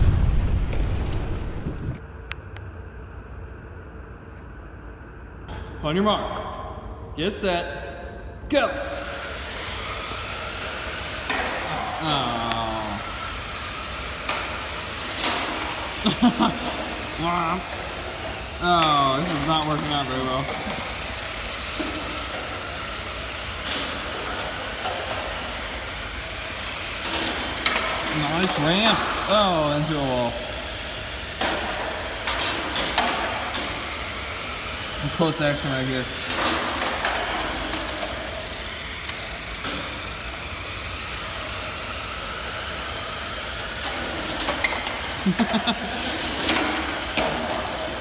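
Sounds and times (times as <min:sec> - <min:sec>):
rc car motors whirring: 0:09.0 - 0:48.0
tyres on tiled floor: 0:09.0 - 0:48.0.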